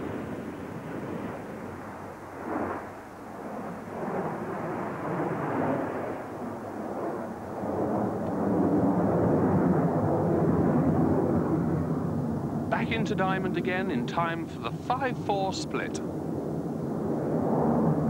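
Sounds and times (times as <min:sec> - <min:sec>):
jet aircraft flying past: 0:00.0 - 0:18.0.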